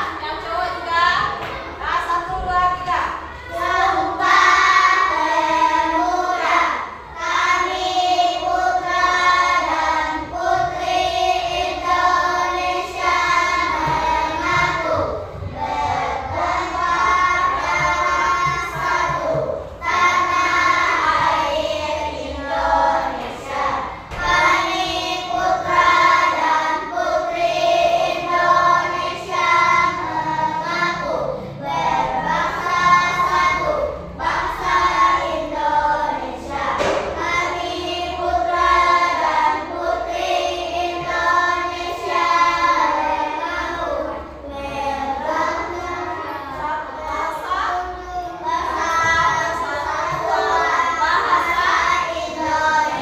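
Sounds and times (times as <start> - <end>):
children singing: 1.2 - 53.0.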